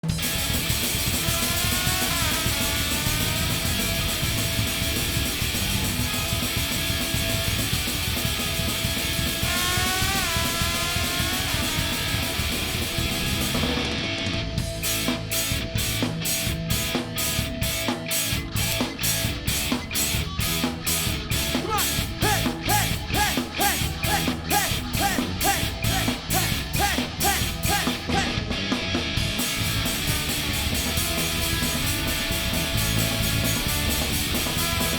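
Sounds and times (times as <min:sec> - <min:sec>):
distorted electric guitar: 0:00.0 - 0:34.9
fast drum beat: 0:00.0 - 0:34.9.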